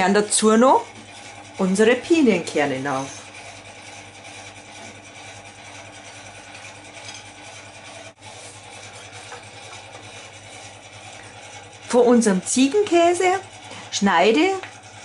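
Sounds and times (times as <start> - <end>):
electric grill rattling hum: 0.0 - 15.0.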